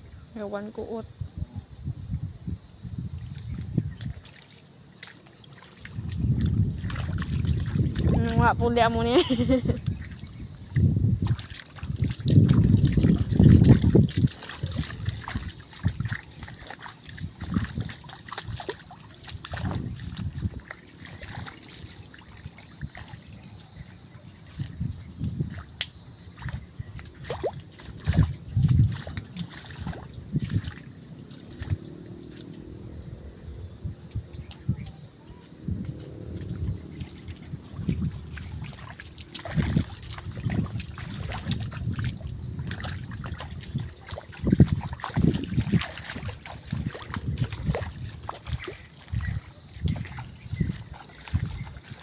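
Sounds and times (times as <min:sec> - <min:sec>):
footsteps wading through water: 0:00.0 - 0:52.0.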